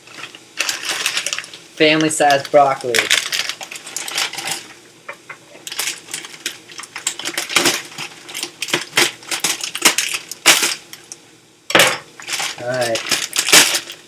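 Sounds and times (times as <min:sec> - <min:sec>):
broccoli being broken up: 0:00.2 - 0:11.2, 0:12.2 - 0:14.0.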